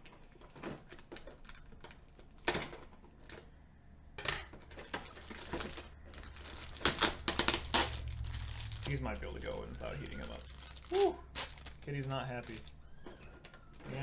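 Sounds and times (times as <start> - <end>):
plastic packaging crinkling: 0.0 - 2.4, 4.6 - 14.0.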